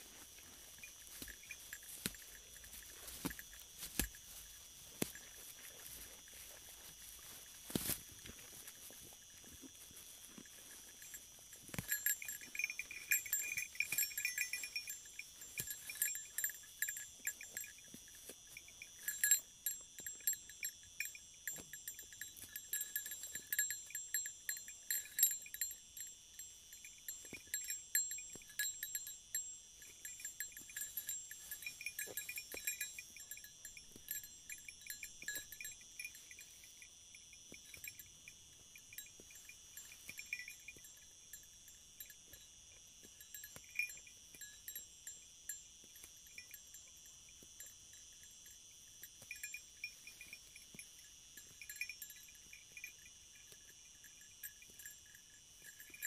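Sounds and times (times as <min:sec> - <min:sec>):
small metal bell jangling: 0:00.0 - 0:56.0.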